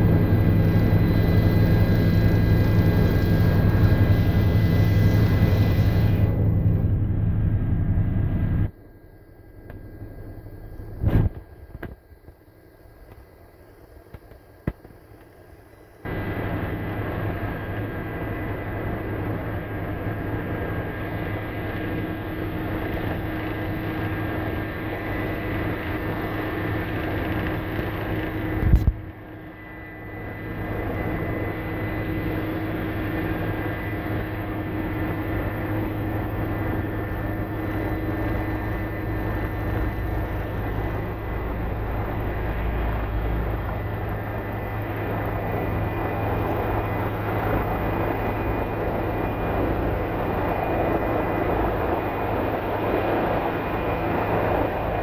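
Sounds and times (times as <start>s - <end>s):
helicopter drone from inside cabin: 0.0s - 55.0s.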